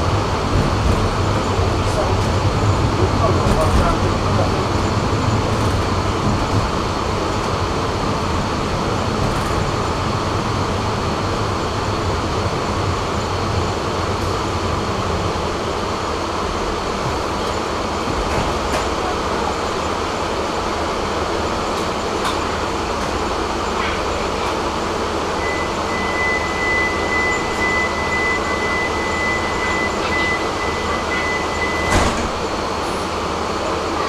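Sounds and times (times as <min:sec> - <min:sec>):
tram wheels rumbling: 0:00.0 - 0:34.0.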